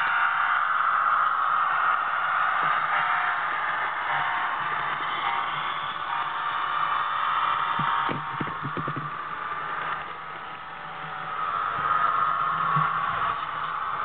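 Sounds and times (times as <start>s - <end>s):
model locomotive diesel drone: 0.0s - 14.0s
quick run of clicks: 2.6s - 14.0s.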